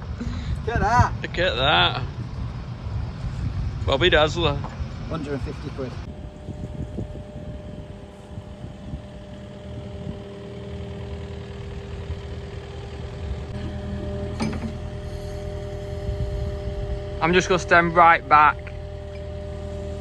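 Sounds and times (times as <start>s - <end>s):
diesel engine running: 0.0s - 20.0s
engine whine: 0.0s - 20.0s.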